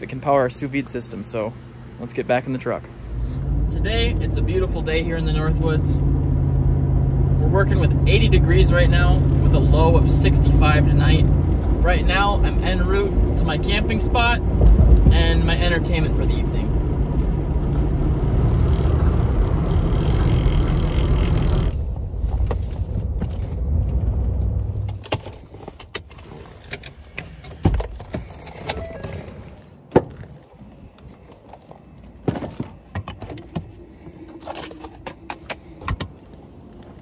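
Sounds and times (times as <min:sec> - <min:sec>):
road noise inside truck cabin: 0:00.0 - 0:37.0.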